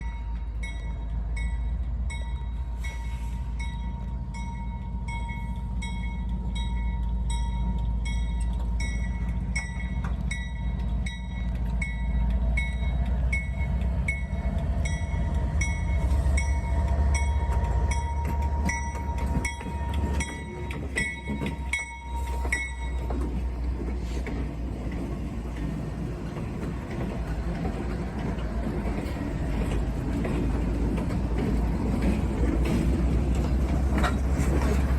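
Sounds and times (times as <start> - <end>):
diesel locomotive rumbling: 0.0 - 34.9
locomotive bell ringing: 0.0 - 34.9.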